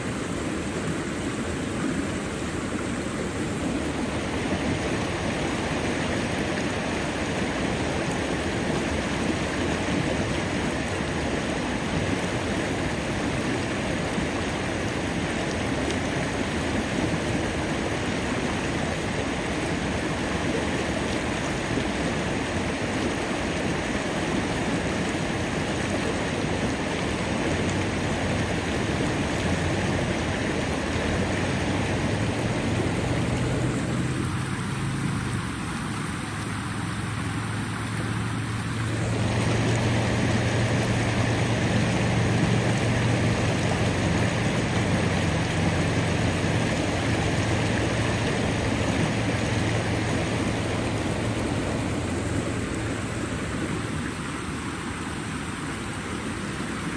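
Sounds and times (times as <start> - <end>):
stream water rushing: 0.0 - 56.9.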